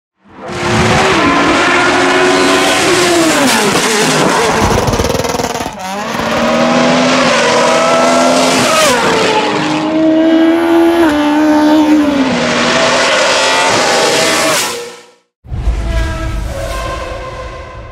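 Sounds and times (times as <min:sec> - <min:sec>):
race car engines at high revs: 0:00.3 - 0:15.0.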